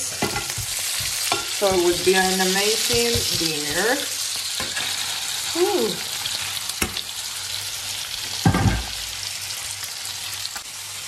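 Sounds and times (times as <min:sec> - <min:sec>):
fish sizzling in frying pans: 0:00.0 - 0:11.0.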